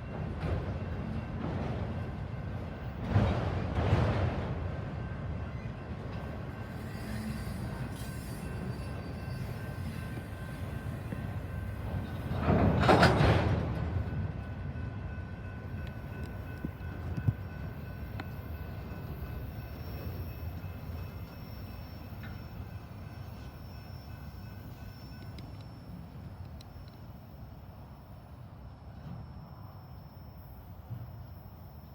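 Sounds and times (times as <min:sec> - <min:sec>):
freight train rumbling past: 0:00.0 - 0:31.9.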